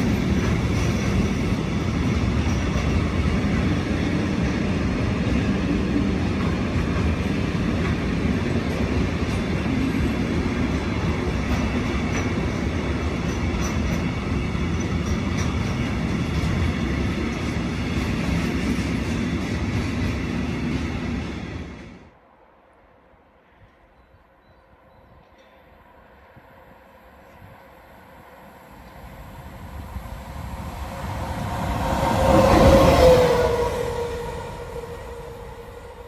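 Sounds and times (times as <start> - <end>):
train wheels rumbling on rails: 0.0 - 22.2, 27.2 - 36.0.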